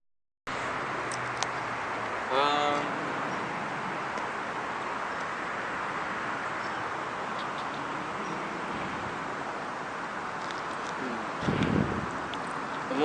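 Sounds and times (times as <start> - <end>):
rushing outdoor background noise: 0.5 - 13.0.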